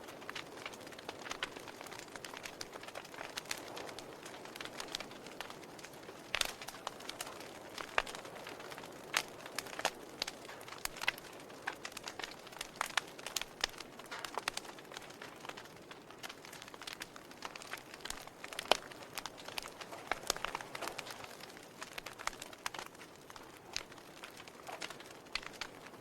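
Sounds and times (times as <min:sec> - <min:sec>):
log fire crackling: 0:00.0 - 0:26.0.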